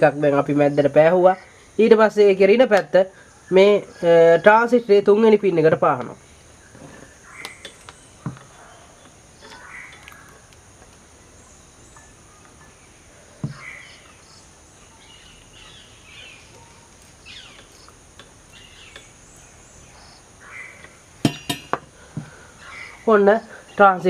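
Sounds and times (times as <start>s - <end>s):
faint chirping: 0.0s - 24.0s
high-pitched hiss: 0.0s - 24.0s.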